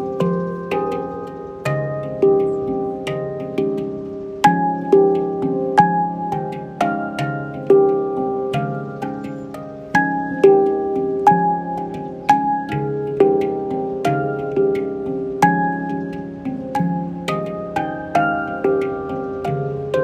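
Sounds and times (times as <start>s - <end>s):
handpan melody: 0.0s - 20.0s.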